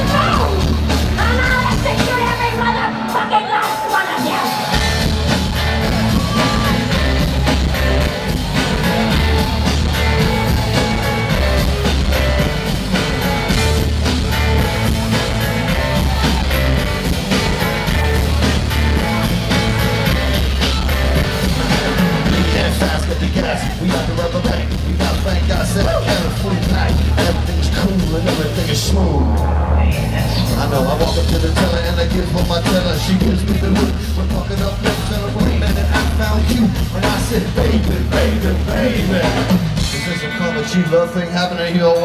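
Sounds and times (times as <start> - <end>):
drums: 0.0 - 42.0
bass repeating low figure: 4.8 - 40.0.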